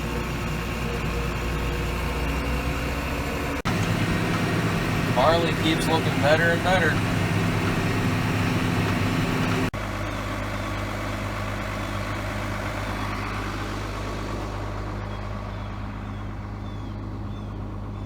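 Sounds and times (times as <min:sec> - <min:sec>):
heavy engine humming: 0:00.0 - 0:18.0.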